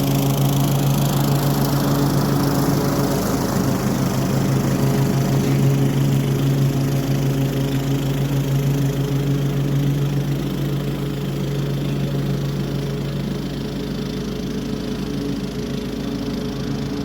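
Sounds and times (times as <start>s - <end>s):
lawn mower engine droning: 0.0s - 17.0s.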